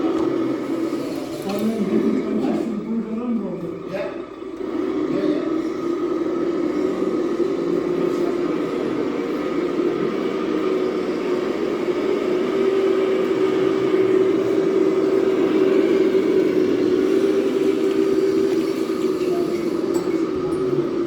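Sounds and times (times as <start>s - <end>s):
rc truck motor hum: 0.0s - 21.0s.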